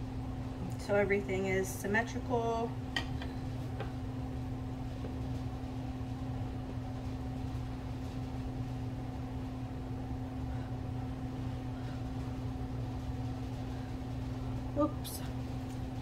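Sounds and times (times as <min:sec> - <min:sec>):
low machine hum with pitched tone: 0:00.0 - 0:16.0.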